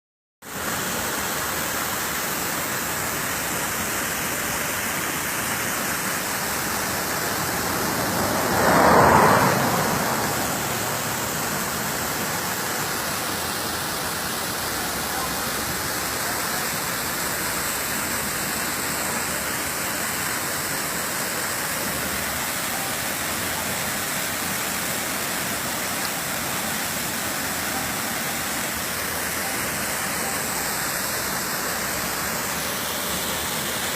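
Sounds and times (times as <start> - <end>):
waterfall roaring: 0.5 - 33.9.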